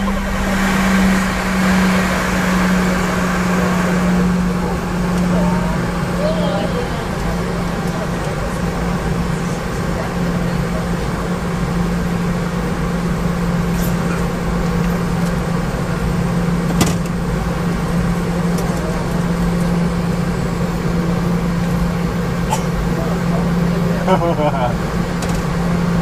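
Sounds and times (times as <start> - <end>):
airliner cabin engine drone: 0.0 - 26.0.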